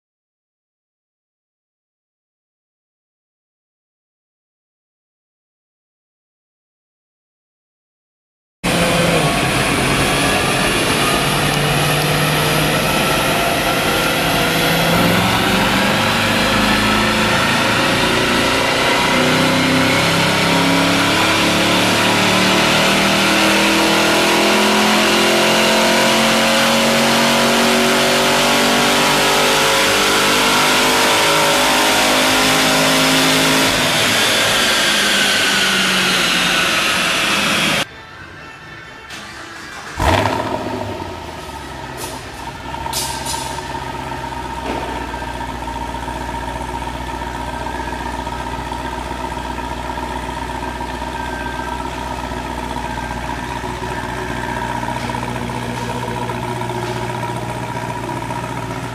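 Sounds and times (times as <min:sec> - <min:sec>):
supercharged car engine revving: 0:08.6 - 0:37.9, 0:39.2 - 0:58.9.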